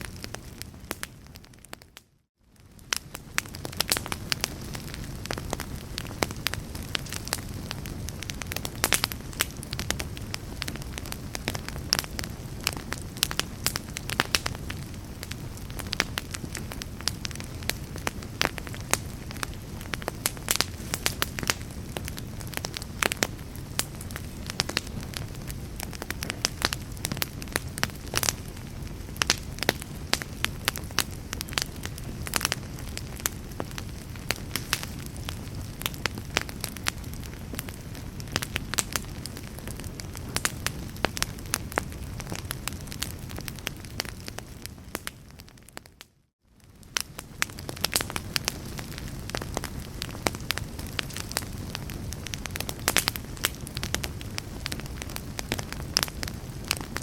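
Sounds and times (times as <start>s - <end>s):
log fire crackling: 0.0s - 57.0s
low rumble of flames: 0.0s - 57.0s.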